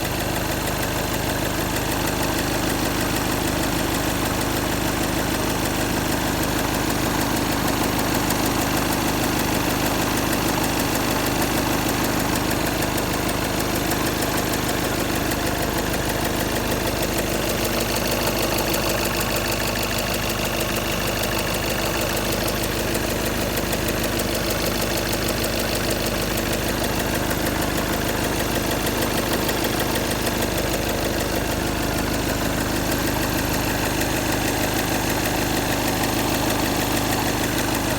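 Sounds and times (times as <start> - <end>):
diesel engine idling with knock: 0.0 - 37.9.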